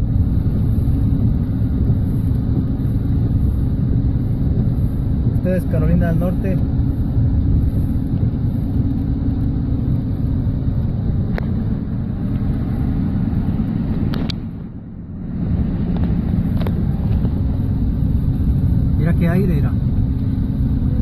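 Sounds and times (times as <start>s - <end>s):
car road and wind noise: 0.0s - 21.0s.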